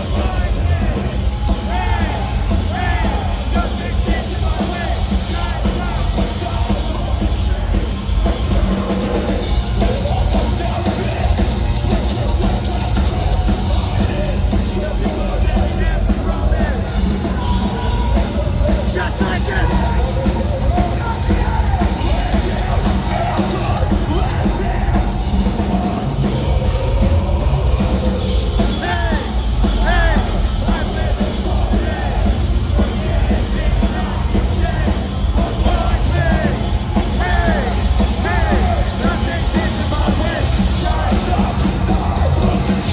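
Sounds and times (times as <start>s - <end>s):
distorted guitars and bass: 0.0s - 42.9s
live metal band playing: 0.0s - 42.9s
pounding drum beat: 0.0s - 42.9s
vocals: 0.0s - 42.9s.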